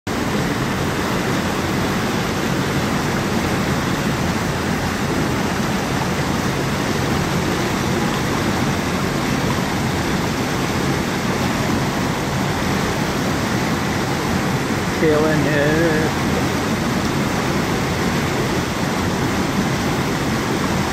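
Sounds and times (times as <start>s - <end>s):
waterfall rushing: 0.1s - 20.9s.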